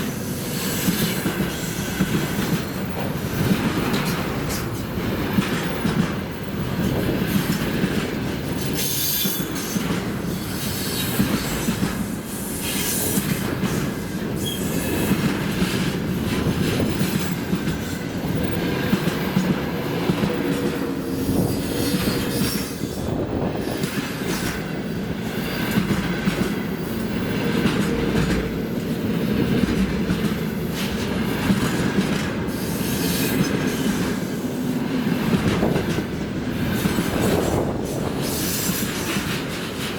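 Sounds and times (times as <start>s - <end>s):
freight train rolling rumble: 0.0s - 39.9s.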